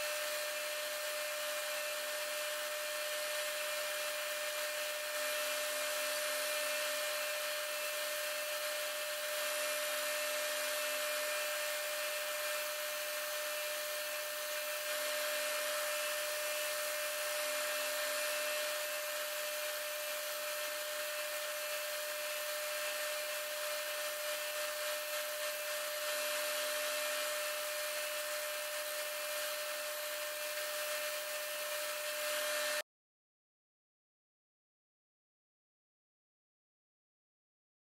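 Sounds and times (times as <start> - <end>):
woodworking machine whining: 0.0 - 32.8.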